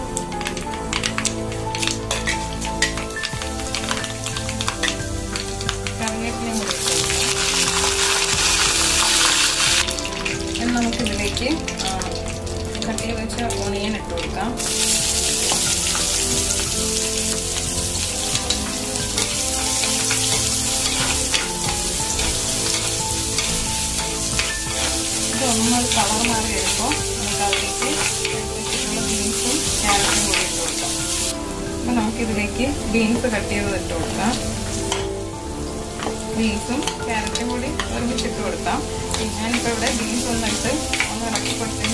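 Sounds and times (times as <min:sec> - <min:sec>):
onion sizzling in hot oil: 0:00.0 - 0:41.9
spices crackling in oil: 0:00.0 - 0:41.9.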